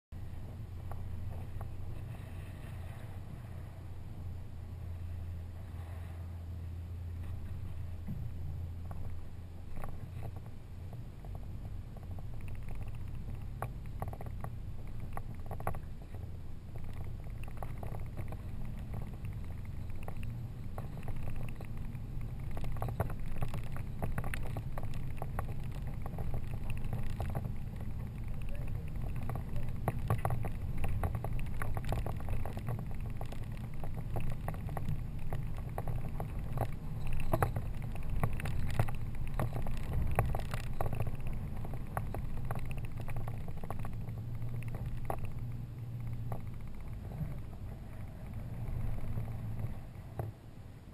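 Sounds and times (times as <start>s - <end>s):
gravel crunching under tyres: 0.1s - 50.9s
pickup engine running under load: 0.1s - 50.9s.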